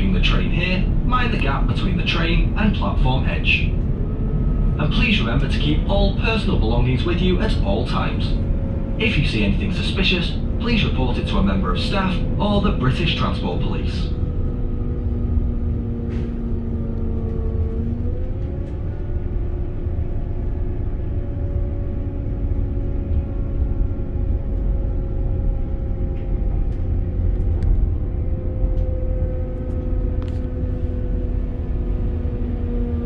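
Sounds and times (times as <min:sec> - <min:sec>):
steady hum: 0:00.0 - 0:33.0
train wheels rumbling on track: 0:00.0 - 0:33.0.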